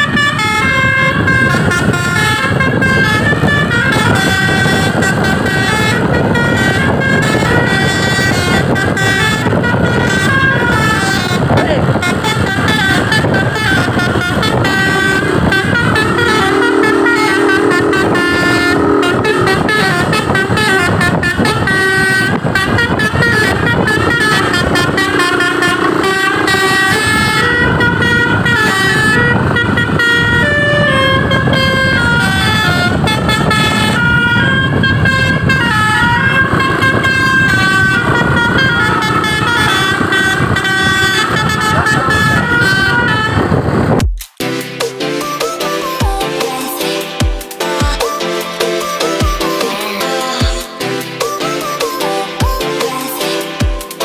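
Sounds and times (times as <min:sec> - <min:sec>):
held horn chord: 0:00.0 - 0:43.9, 0:45.0 - 0:54.0
musical bus horn tune: 0:00.0 - 0:54.0.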